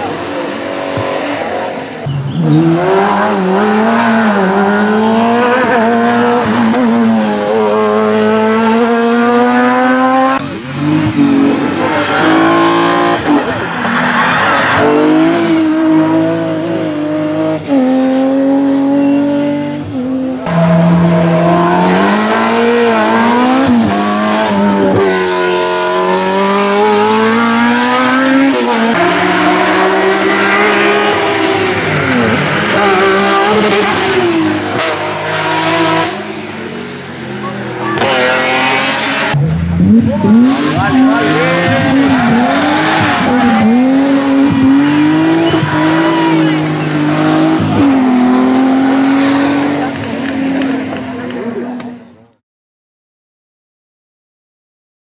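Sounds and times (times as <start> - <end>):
race car engines at full throttle: 0.0 - 52.4.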